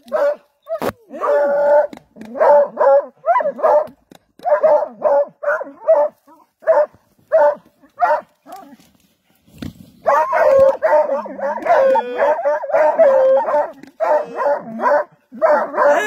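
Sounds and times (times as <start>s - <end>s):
hounds baying and yelping: 0.0s - 8.8s, 10.0s - 16.0s.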